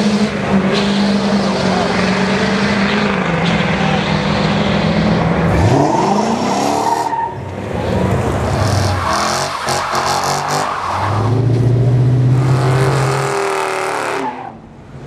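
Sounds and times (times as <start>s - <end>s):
race car engine revving: 0.0s - 14.6s
engine drone: 0.0s - 15.0s.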